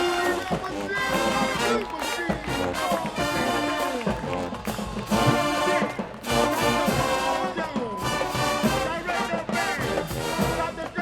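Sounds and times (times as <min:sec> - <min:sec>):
drums: 0:00.0 - 0:11.0
marching band brass: 0:00.0 - 0:11.0.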